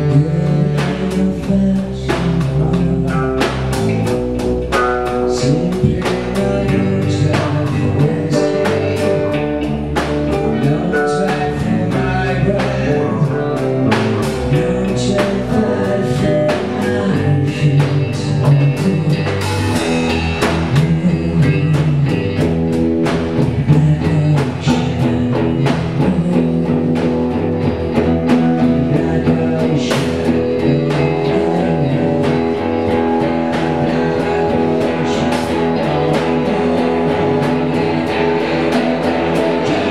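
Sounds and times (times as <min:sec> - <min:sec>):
bass guitar: 0:00.0 - 0:39.9
drum kit: 0:00.0 - 0:39.9
electric guitar: 0:00.0 - 0:39.9
person singing: 0:00.0 - 0:39.9.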